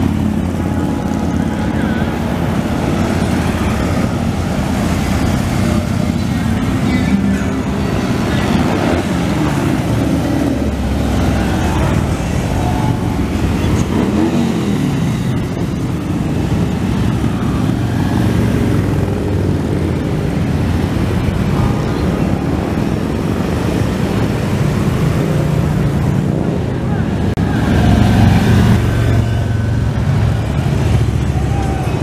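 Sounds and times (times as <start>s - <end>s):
motorcycle engine revving: 0.0s - 26.7s
motorcycles passing: 0.0s - 32.0s.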